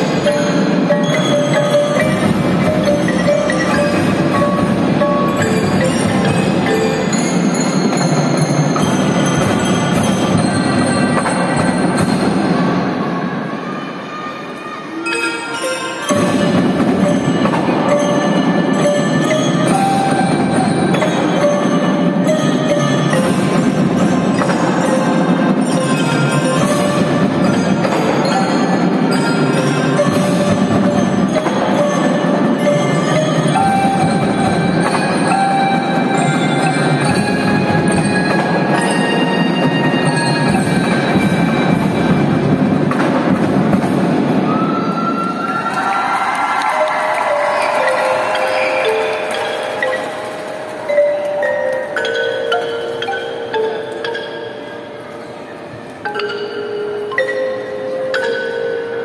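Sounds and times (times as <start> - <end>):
marching band playing: 0.0 - 13.1, 15.6 - 54.8
marimbas and xylophones ringing: 0.0 - 13.2, 14.8 - 59.0.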